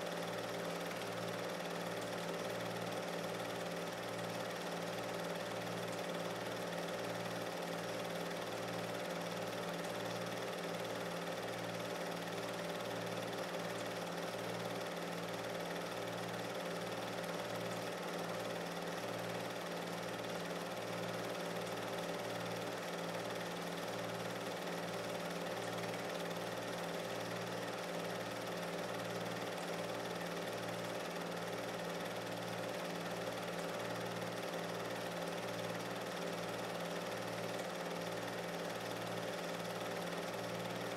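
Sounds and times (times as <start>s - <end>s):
motor hum with low throb: 0.0s - 40.9s.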